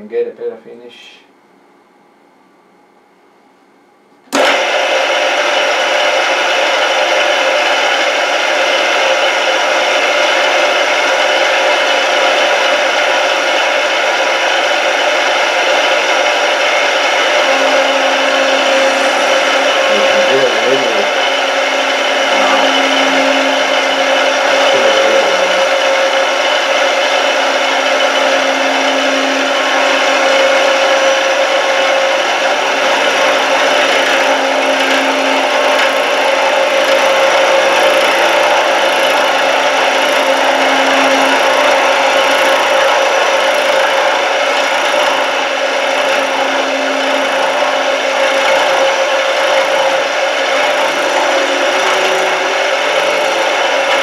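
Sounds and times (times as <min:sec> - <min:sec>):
steady machine tone: 0:00.0 - 0:54.0
milling machine cutting steel: 0:04.3 - 0:54.0.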